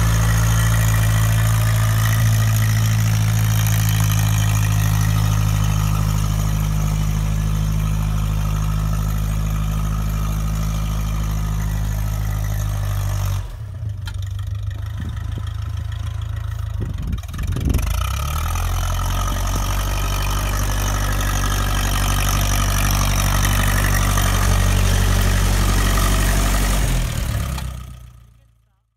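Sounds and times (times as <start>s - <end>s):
tractor engine running: 0.0s - 28.8s.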